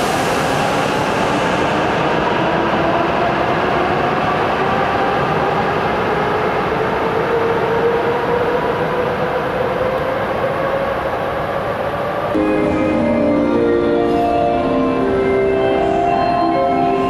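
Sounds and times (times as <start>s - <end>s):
train rumble and rush: 0.0s - 17.0s.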